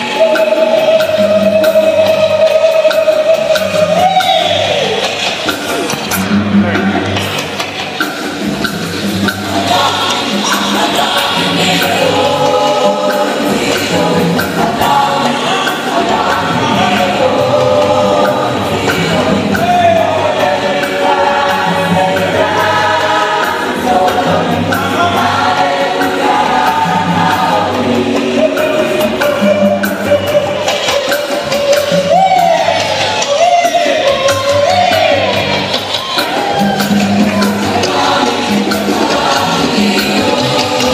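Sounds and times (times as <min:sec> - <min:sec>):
gospel choir singing: 0:00.0 - 0:40.9
live band playing: 0:00.0 - 0:40.9.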